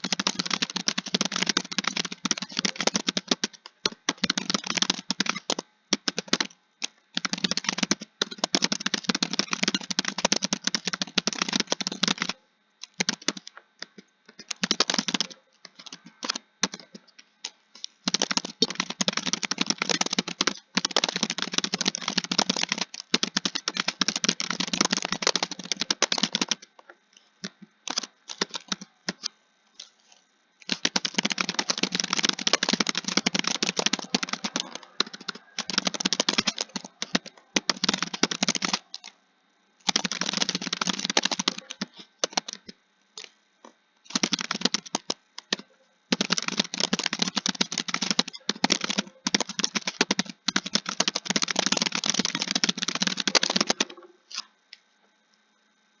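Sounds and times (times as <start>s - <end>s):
keyboard typing: 0.0s - 30.0s, 30.6s - 39.2s, 39.8s - 43.4s, 44.1s - 54.5s.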